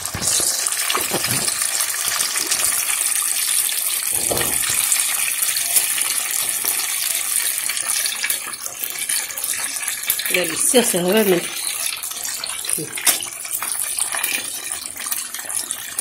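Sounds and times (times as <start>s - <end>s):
oil sizzling while deep-frying: 0.0s - 16.0s.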